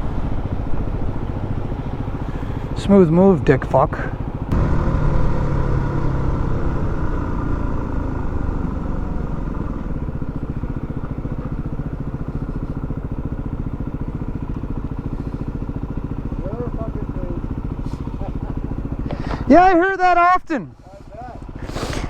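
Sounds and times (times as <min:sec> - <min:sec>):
motorcycle engine idling: 0:00.0 - 0:20.1, 0:20.7 - 0:22.0.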